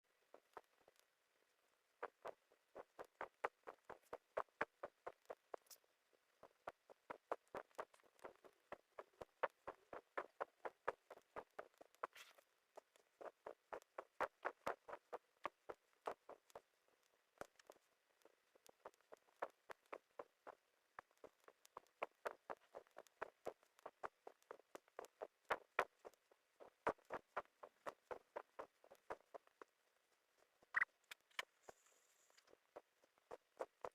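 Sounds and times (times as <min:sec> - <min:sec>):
rapid light taps: 0:00.1 - 0:33.9.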